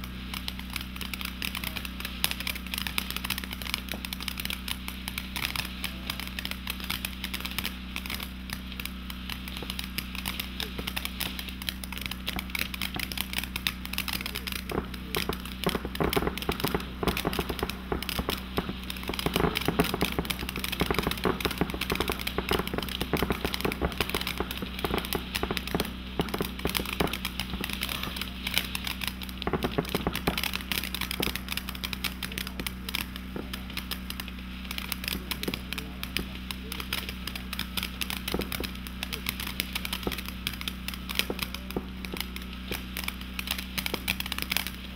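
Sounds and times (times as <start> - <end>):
firework fountain crackling: 0.0 - 44.9.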